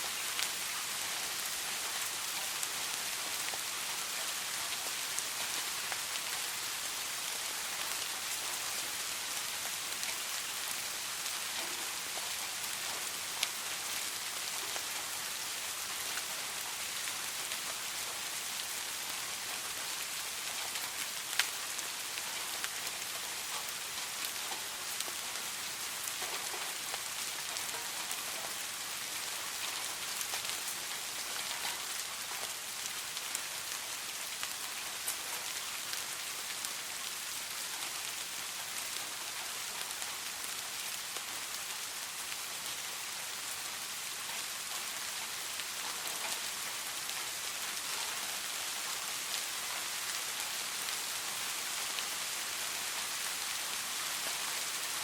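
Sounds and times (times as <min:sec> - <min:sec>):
soft rain falling: 0:00.0 - 0:55.0.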